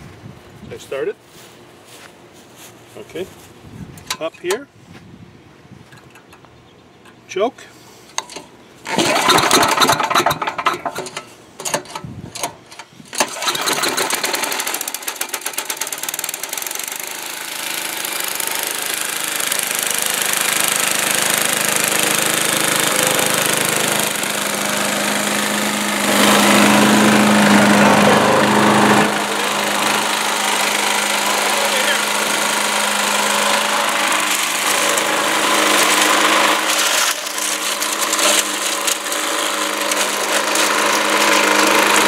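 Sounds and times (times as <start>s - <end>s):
small engine starting and running: 8.2s - 42.0s
starter rope pull: 8.2s - 42.0s.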